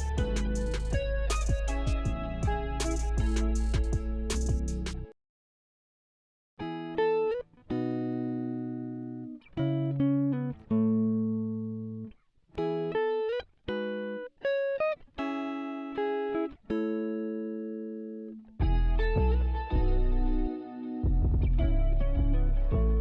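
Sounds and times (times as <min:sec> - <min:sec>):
plucked guitar: 0:00.0 - 0:05.1, 0:06.6 - 0:23.0.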